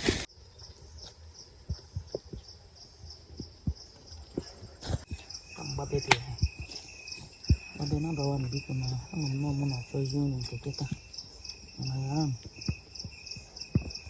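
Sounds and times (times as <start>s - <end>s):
high insect trill: 0.0s - 14.0s
insects chirping: 0.0s - 14.0s.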